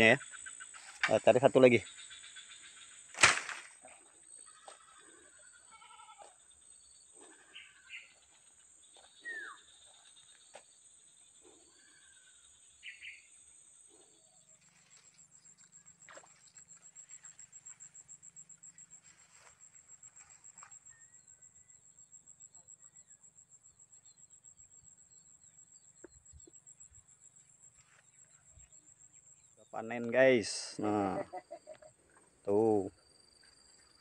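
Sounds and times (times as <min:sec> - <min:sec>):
faint insect trill: 0:00.0 - 0:34.0.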